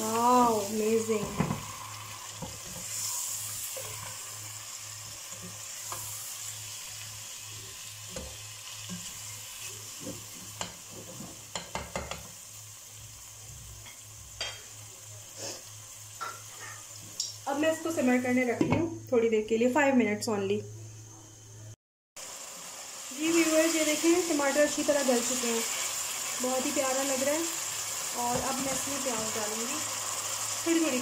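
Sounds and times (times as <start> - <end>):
food sizzling in oil: 0.0 - 18.7, 22.2 - 31.0.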